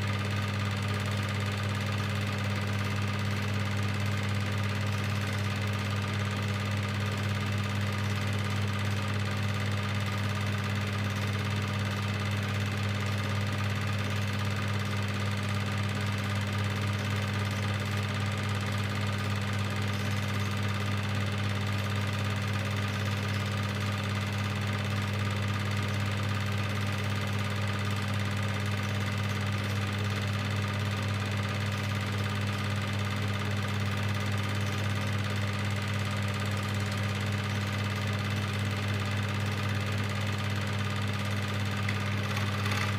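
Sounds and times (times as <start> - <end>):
film projector motor hum: 0.0 - 42.9.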